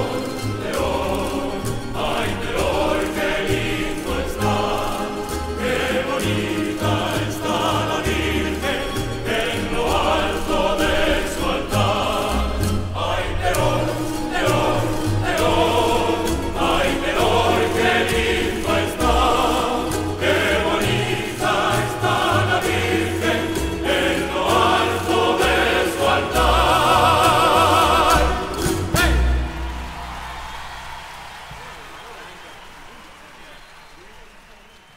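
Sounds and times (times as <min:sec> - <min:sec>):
instrumental accompaniment: 0:00.0 - 0:30.6
choir singing folk song: 0:00.0 - 0:30.9.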